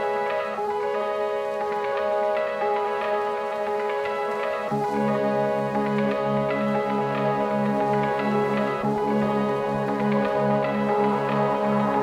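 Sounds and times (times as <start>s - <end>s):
music of sustained tones: 0.0s - 12.0s.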